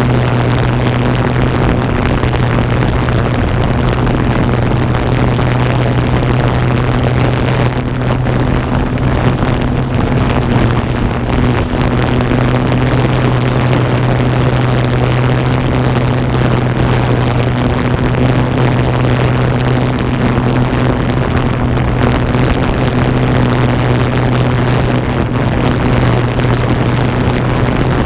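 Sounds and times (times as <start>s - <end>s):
drone propellers humming: 0.0s - 28.0s.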